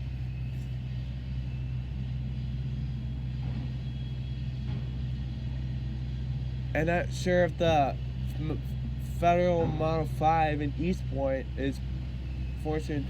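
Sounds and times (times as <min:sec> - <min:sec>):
motor vehicle engine rumbling: 0:00.0 - 0:13.0.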